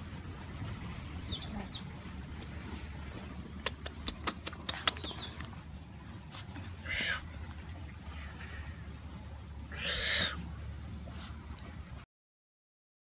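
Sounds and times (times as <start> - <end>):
steady low rumble: 0.0 - 12.0
birds chirping: 0.9 - 11.9.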